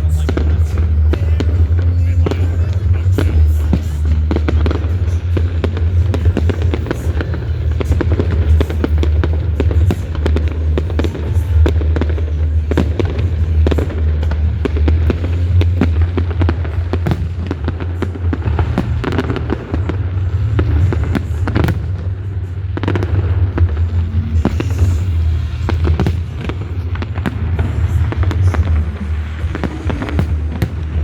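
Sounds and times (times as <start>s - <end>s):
fireworks crackling and popping: 0.0s - 31.0s
low rumble: 0.0s - 31.0s.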